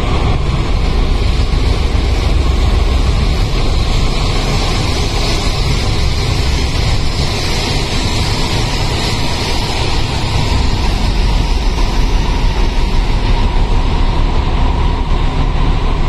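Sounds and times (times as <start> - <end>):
faint steady whine: 0.0 - 16.0
train wheels rumbling on track: 0.0 - 16.0.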